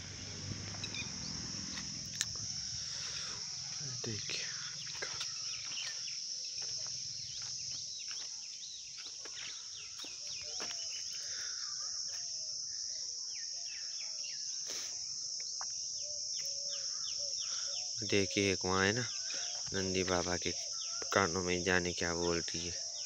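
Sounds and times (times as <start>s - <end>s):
high-pitched insect drone: 0.0s - 23.0s
small birds chirping: 0.0s - 23.0s.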